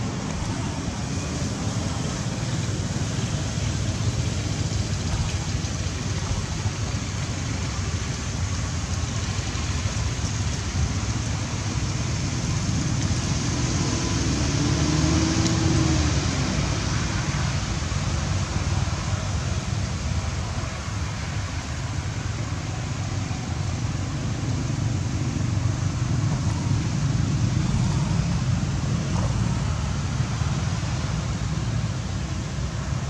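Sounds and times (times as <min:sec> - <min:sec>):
passing vehicle engine hum: 0:00.0 - 0:33.0
road traffic rumble: 0:00.0 - 0:33.0.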